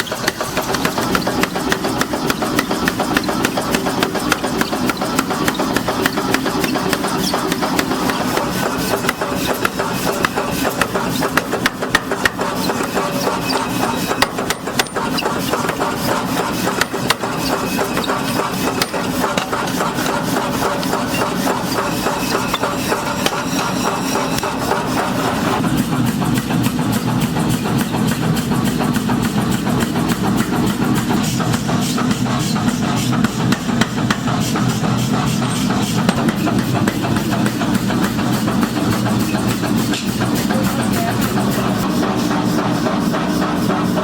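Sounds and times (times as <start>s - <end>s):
hammering on sheet steel: 0.0s - 44.0s.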